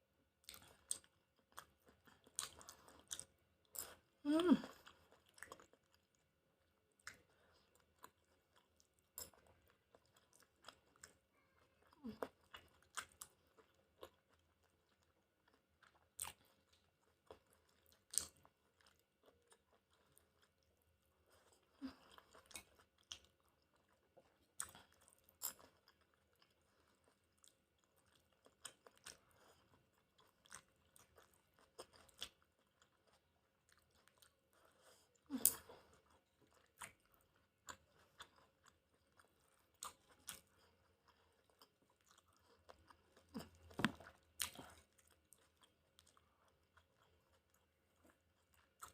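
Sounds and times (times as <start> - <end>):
chewing: 0.4 - 48.9.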